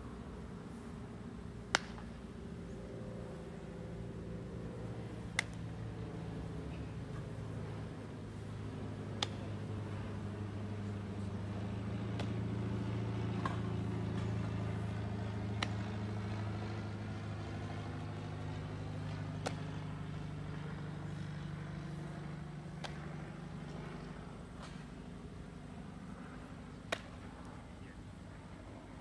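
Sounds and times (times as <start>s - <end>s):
motor vehicle engine drone: 0.0s - 29.0s.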